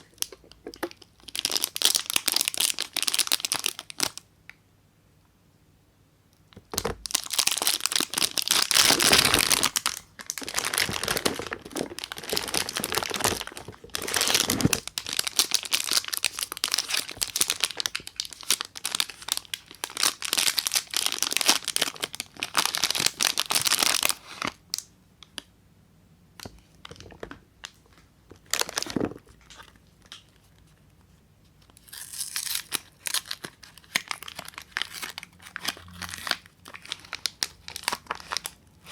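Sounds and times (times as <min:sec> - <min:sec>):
wrapper crinkling and tearing: 0:00.0 - 0:04.2, 0:06.7 - 0:24.8, 0:26.4 - 0:30.6, 0:31.7 - 0:38.9.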